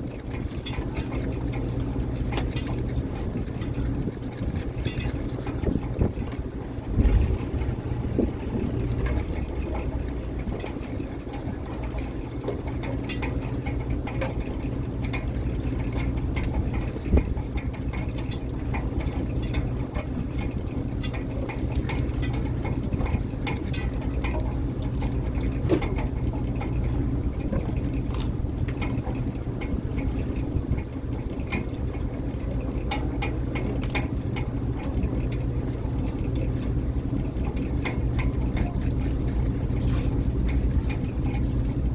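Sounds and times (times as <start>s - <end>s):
boat engine running: 0.0s - 41.9s
light clicks and knocks: 0.0s - 41.9s.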